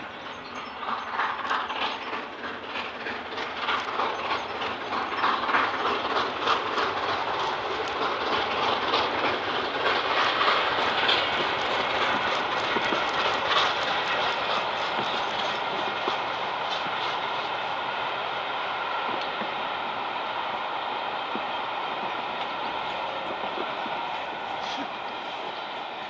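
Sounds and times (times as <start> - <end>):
train wheels clicking on rails: 0.0 - 26.0.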